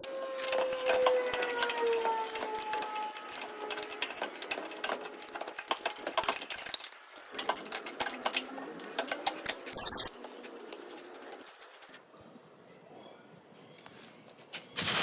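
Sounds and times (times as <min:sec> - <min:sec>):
rapid irregular clicking: 0:00.0 - 0:12.0.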